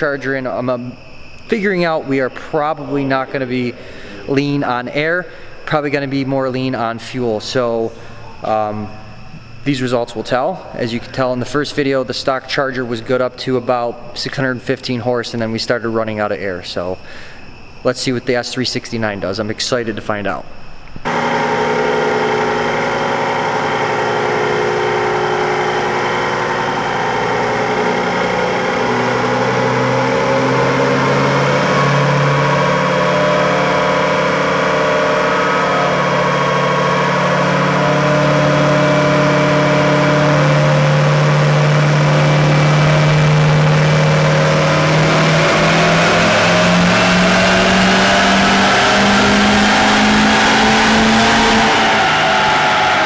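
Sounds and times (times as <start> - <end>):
diesel engine under load: 0.0 - 14.4, 21.0 - 53.0.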